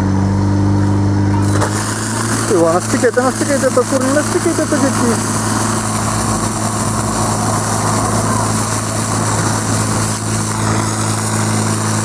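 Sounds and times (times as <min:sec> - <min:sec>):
small petrol pump engine running: 0:00.0 - 0:12.0
water jets hissing: 0:01.4 - 0:12.0.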